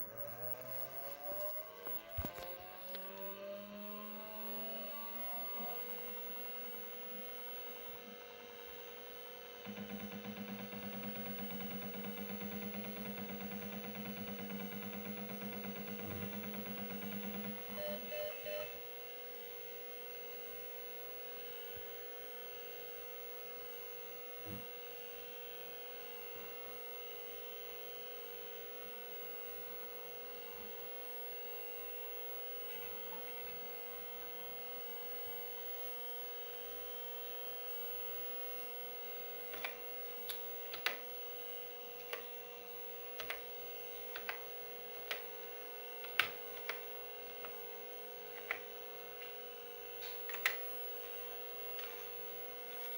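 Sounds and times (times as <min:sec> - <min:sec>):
computer electronic hum and whine: 0:00.0 - 0:52.9.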